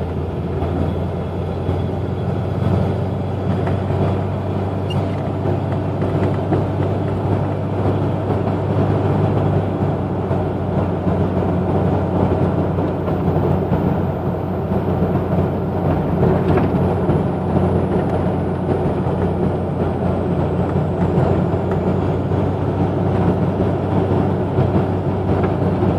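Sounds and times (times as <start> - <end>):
car exhaust drone: 0.0 - 25.9.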